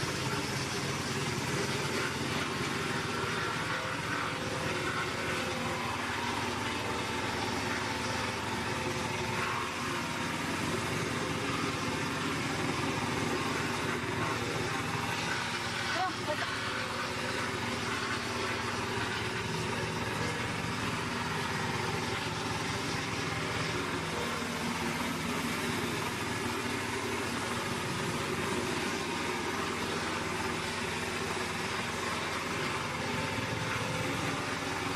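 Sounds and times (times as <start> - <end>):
wood chipper engine running: 0.0 - 34.9.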